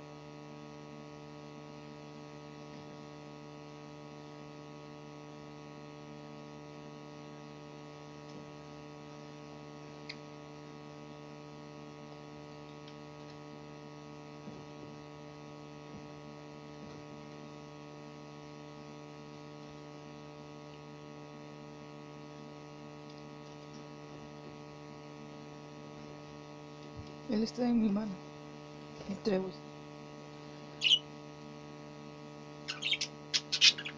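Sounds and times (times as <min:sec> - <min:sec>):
electrical mains hum: 0:00.0 - 0:33.9.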